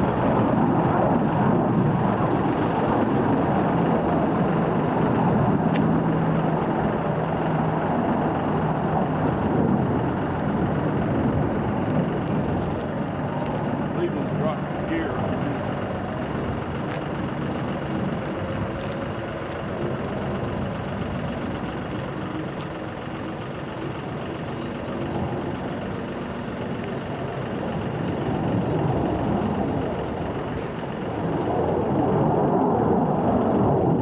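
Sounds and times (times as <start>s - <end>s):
fighter jet engines rumbling: 0.0s - 34.0s.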